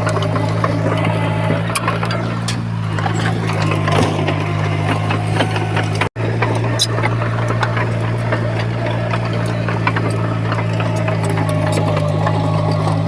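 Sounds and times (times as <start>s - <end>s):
clanks and knocks: 0.0s - 13.0s
diesel engine running: 0.0s - 13.0s.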